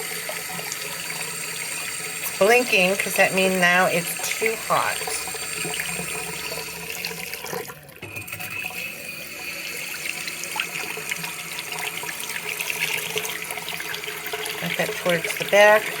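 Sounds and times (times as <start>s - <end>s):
faucet water running into sink: 0.0s - 16.0s.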